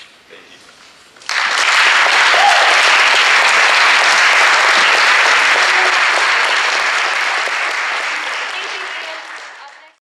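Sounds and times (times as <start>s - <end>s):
audience clapping: 1.2s - 10.0s.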